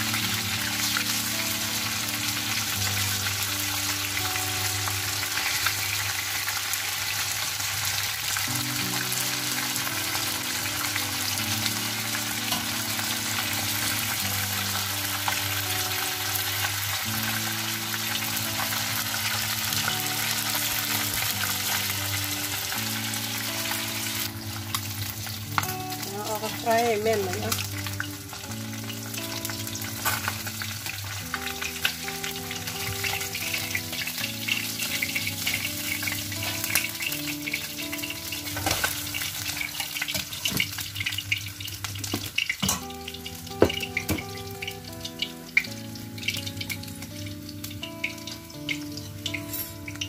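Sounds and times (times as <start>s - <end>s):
fish frying in hot oil: 0.0s - 50.0s
soft background music: 0.0s - 50.0s.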